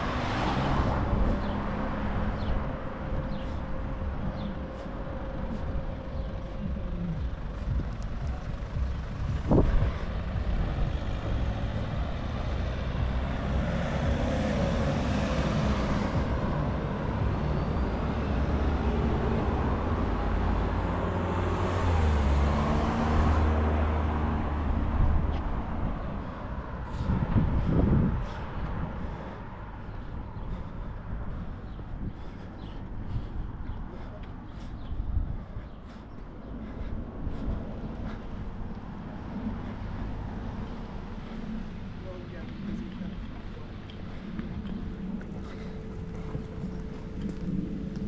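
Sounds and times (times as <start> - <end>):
vehicle engines humming: 0.0 - 48.0.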